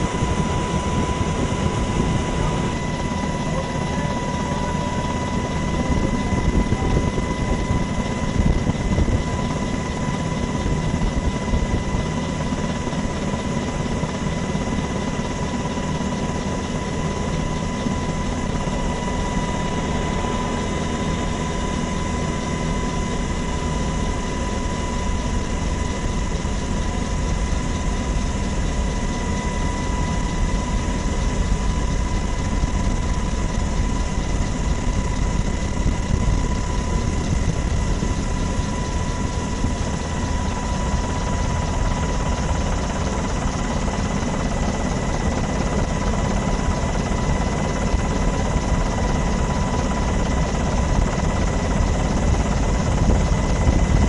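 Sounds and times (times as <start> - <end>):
helicopter rotor and engine rumble: 0.0 - 54.0.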